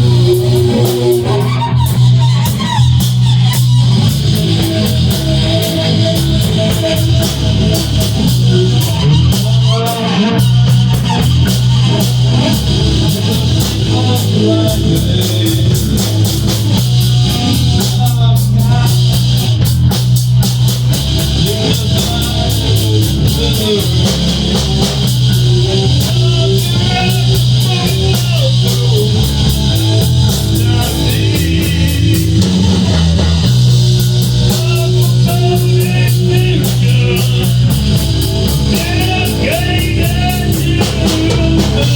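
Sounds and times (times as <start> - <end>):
rock band playing instrumental: 0.0 - 41.9.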